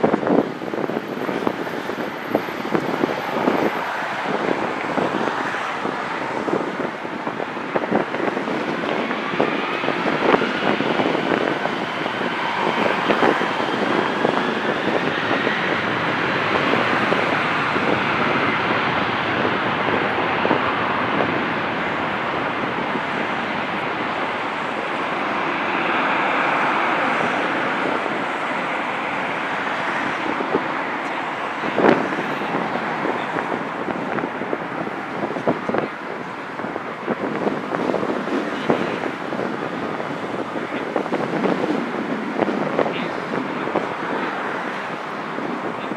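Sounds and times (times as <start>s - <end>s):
jet airliner engines running: 0.0s - 45.9s
wind on microphone: 0.0s - 45.9s.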